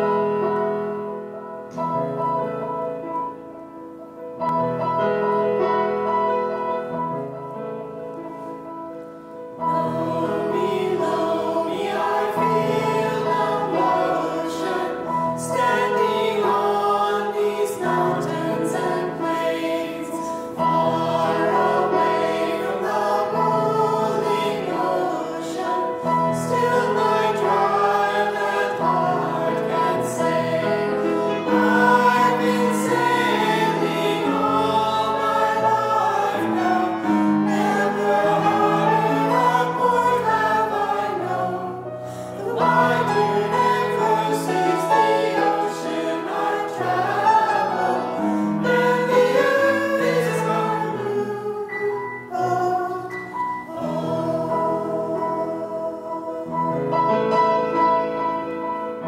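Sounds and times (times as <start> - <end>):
choir singing a hymn: 0.0 - 3.5, 8.5 - 59.0
grand piano playing: 0.0 - 59.0.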